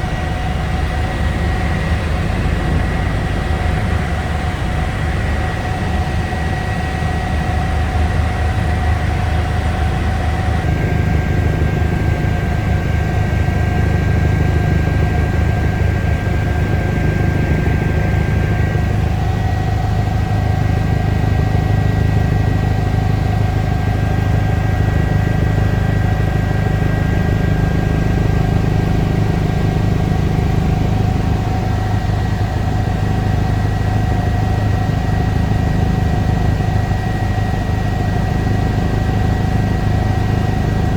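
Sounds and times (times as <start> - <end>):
helicopter rotor drone: 0.0 - 40.9.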